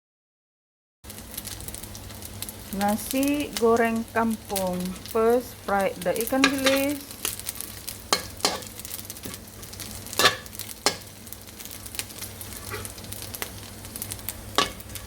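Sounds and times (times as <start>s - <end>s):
anchovies sizzling in oil: 1.1s - 15.0s.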